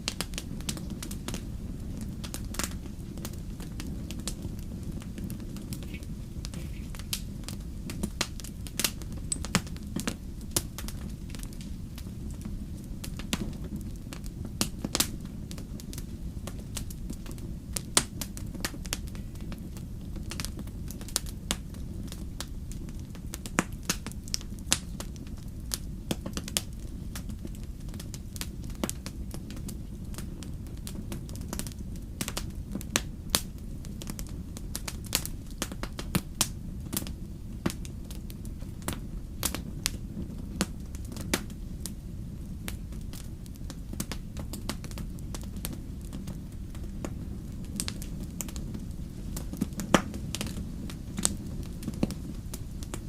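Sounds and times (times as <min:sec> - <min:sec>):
fire crackling and popping: 0:00.0 - 0:53.0
steady low rumble: 0:00.0 - 0:53.0.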